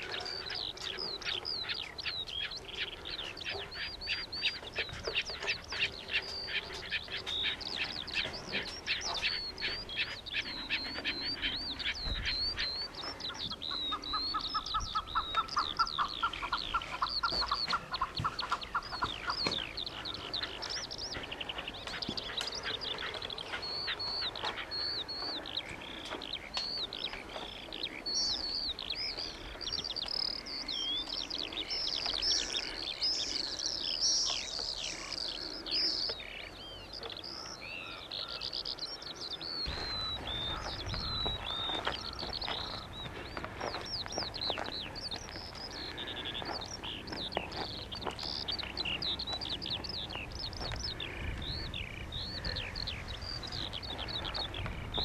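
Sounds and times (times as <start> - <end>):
bird trill of lower notes: 0.0 - 55.0
songbirds chirping: 0.0 - 55.0.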